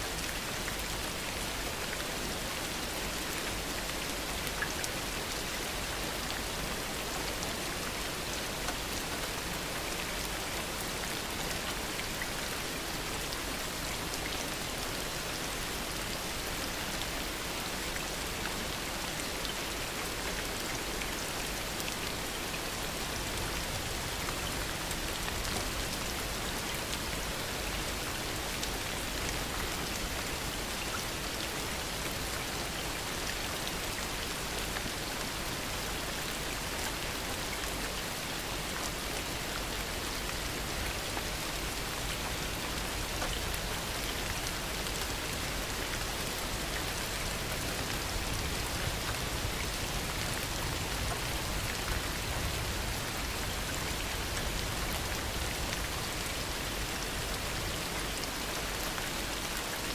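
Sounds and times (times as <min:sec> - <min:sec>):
heavy rain falling: 0:00.1 - 0:59.9.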